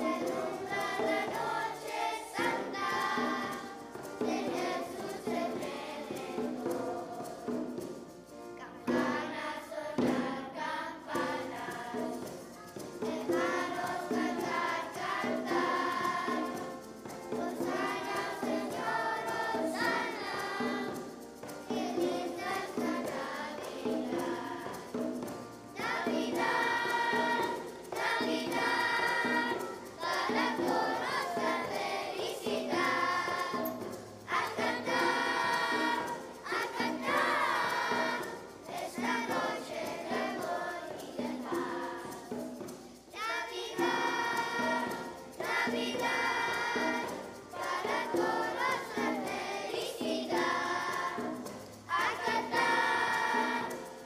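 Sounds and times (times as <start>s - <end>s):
children's choir singing: 0.0s - 54.0s.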